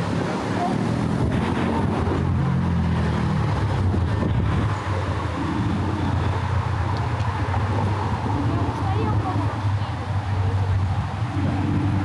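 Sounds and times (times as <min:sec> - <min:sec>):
city street traffic: 0:00.0 - 0:12.0
engine running low hum: 0:00.0 - 0:12.0.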